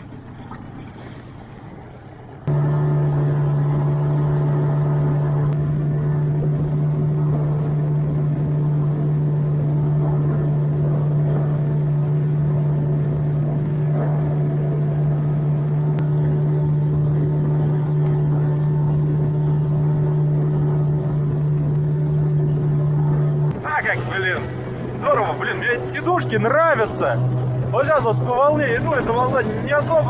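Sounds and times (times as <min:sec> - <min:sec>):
outboard motor running: 0:00.0 - 0:30.0
water noise: 0:00.0 - 0:30.0.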